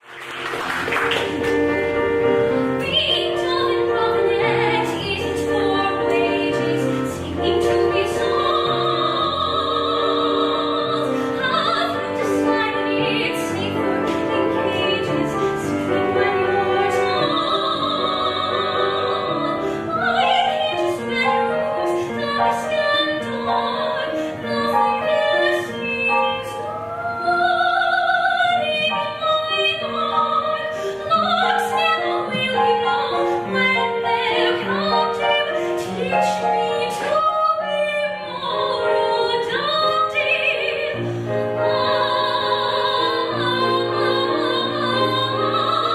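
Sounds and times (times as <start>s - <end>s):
instrumental accompaniment: 0.0s - 45.9s
operatic singing: 2.6s - 45.9s.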